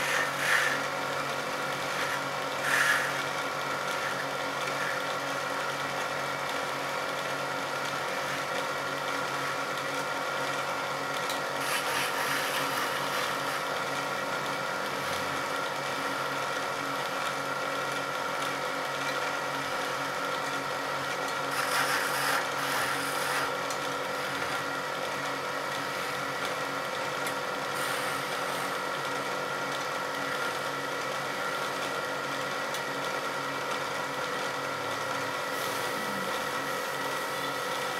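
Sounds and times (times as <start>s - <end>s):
chisel cutting spinning wood: 0.0s - 37.9s
wood lathe running: 0.0s - 37.9s.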